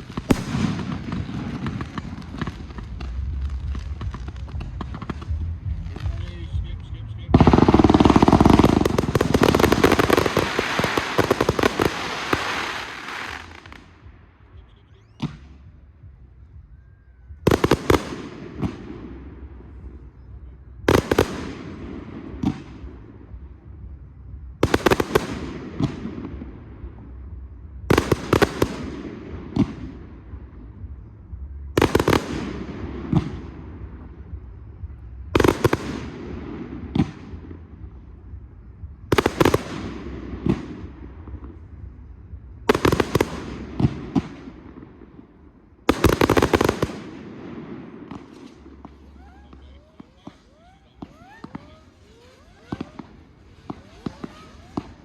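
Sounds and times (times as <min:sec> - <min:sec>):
fireworks crackling: 0:00.0 - 0:16.7, 0:17.4 - 0:55.0.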